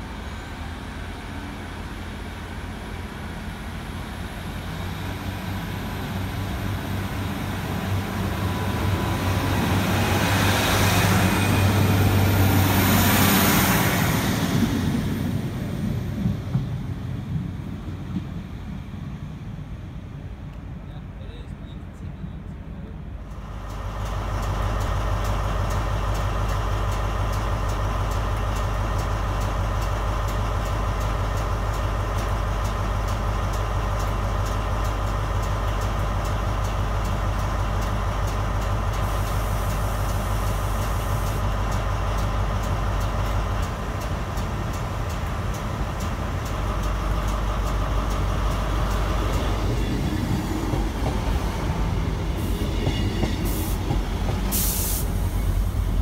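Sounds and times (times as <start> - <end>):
diesel locomotive engine humming: 0.0 - 56.0
diesel train engine and wheels: 0.0 - 56.0.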